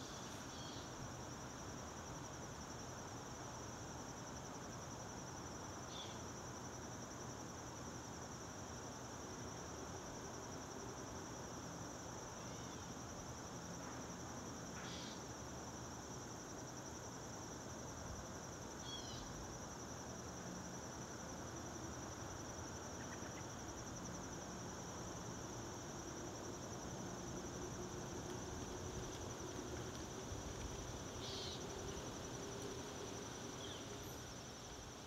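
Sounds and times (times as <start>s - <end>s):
faint hiss: 0.0s - 35.0s
insects chirring drone: 0.0s - 35.0s.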